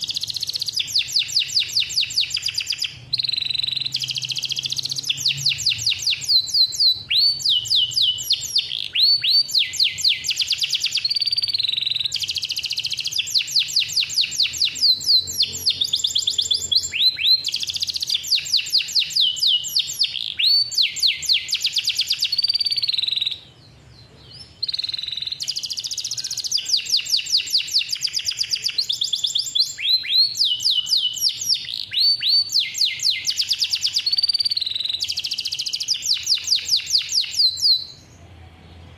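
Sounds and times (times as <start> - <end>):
canary singing trills: 0.0 - 38.2.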